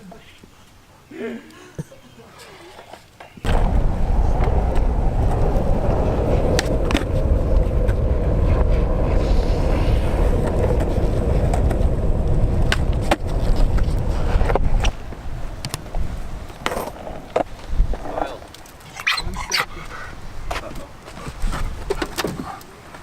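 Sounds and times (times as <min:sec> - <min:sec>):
skateboard wheels rolling on pavement: 0:03.4 - 0:19.0, 0:19.8 - 0:23.0.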